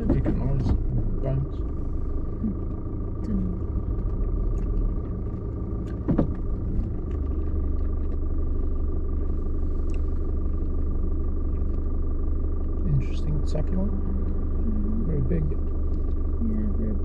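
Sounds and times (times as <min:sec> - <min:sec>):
car engine idling: 0:00.0 - 0:17.0
thin steady whine: 0:00.0 - 0:17.0.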